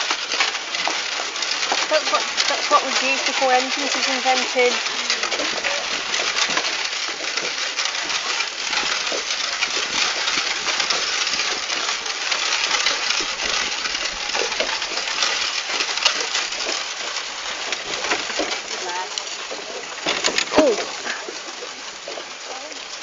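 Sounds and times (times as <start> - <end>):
cart wheels clattering on road: 0.0 - 23.0.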